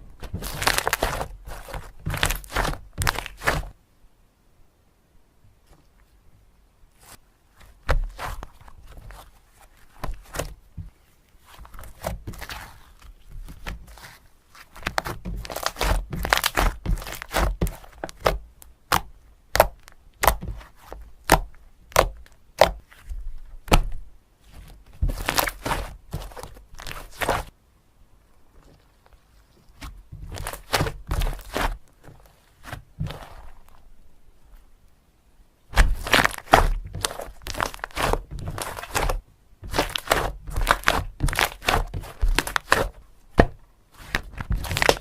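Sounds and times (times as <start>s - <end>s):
slime squishing: 0.0s - 3.8s, 6.9s - 27.5s, 28.4s - 34.0s, 35.7s - 45.0s.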